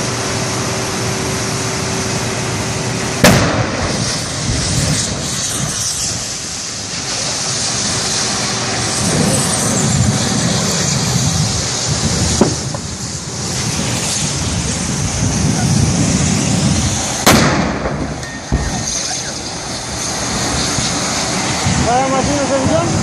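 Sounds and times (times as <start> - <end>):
gas cylinder explosions: 2.8 - 23.0.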